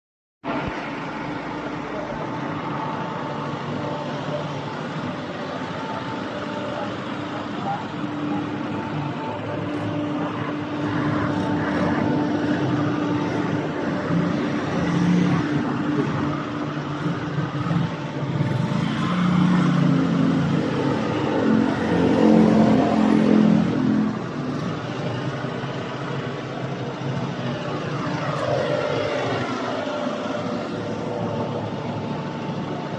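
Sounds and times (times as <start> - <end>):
vehicle engine speeding up and slowing: 0.5 - 32.9.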